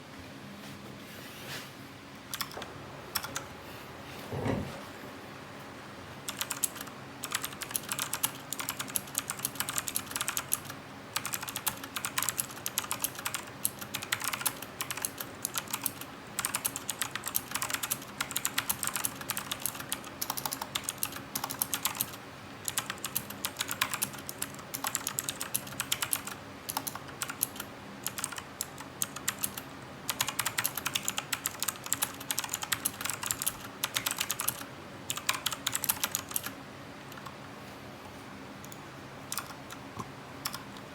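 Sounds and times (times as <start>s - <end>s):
mechanical keyboard typing: 2.3s - 3.4s, 6.3s - 37.3s, 38.6s - 40.9s.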